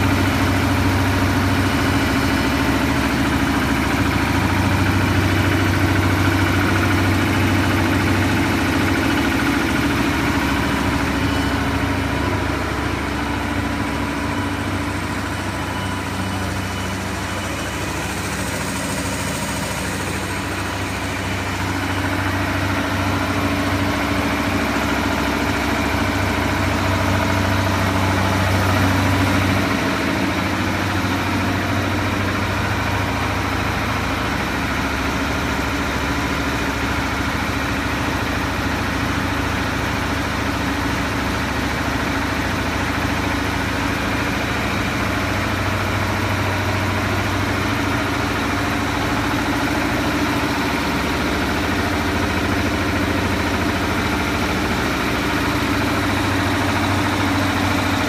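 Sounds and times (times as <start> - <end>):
gas compressor humming: 0.0 - 58.0.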